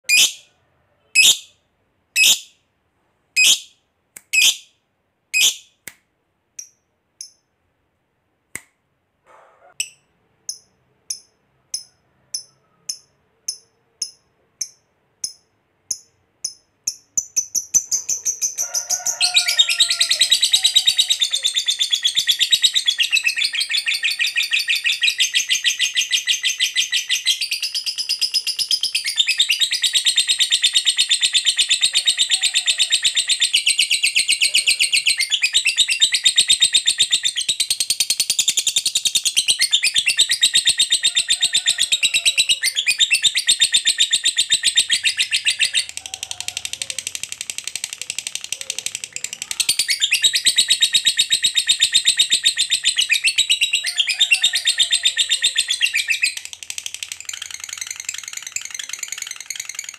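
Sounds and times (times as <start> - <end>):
lovebird chattering trill: 0.0 - 0.5, 1.2 - 1.5, 2.2 - 2.5, 3.4 - 4.7, 5.4 - 5.7, 9.8 - 59.9
lovebird chirping: 0.0 - 2.6, 3.4 - 5.8, 9.4 - 59.9.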